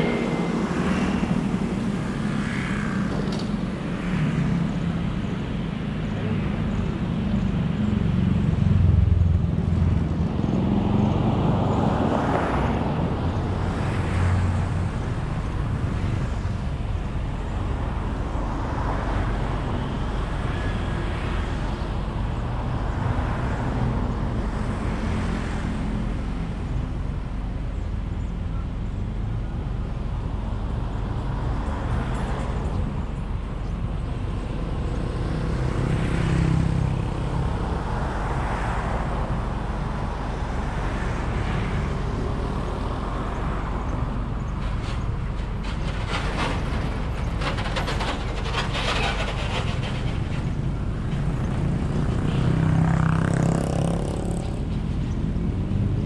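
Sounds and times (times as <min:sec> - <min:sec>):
vehicle rumbling on road: 0:00.0 - 0:56.0
vehicles passing: 0:00.0 - 0:56.0.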